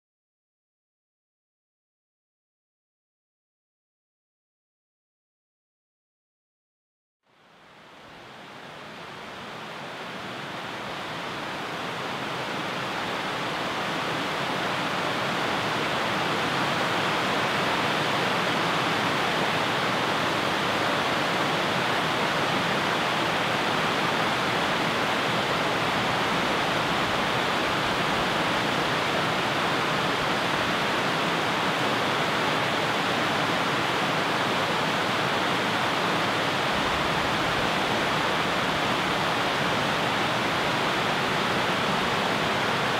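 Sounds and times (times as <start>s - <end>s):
small waterfall: 7.3s - 42.9s
river rapids rushing: 8.0s - 42.9s.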